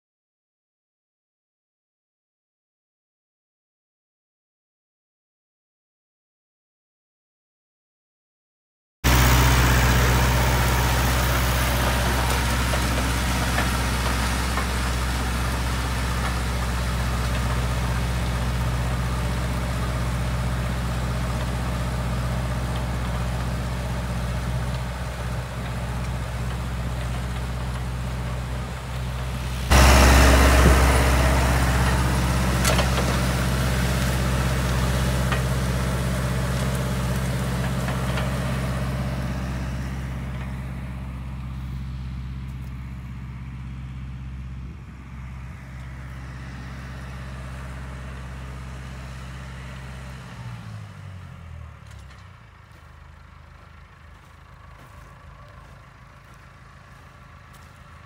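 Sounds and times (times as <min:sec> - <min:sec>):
tractor engine running under load: 0:09.0 - 0:58.0.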